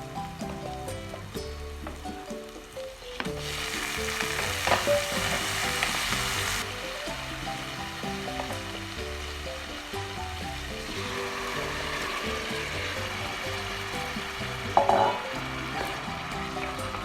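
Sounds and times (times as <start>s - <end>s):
background music: 0.0s - 17.0s
food sizzling in hot oil: 0.0s - 17.0s.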